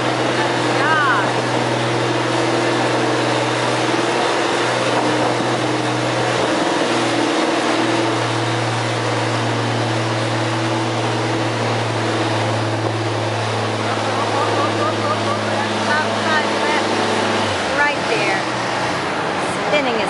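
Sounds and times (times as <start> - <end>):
tractor engine droning under load: 0.0 - 20.0.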